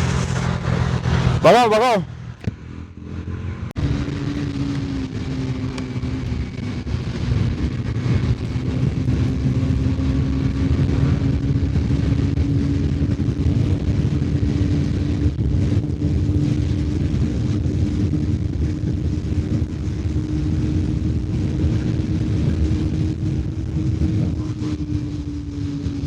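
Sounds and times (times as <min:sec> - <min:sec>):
motorcycle engine at high speed: 0:00.0 - 0:26.0.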